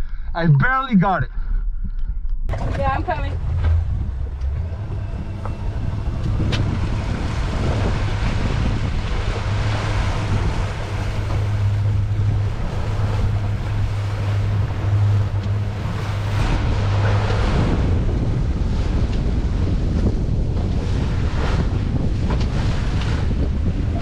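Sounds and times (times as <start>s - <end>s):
wind buffeting microphone: 0.0s - 24.0s
outboard motor running: 1.7s - 24.0s
water washing around boat: 2.5s - 24.0s.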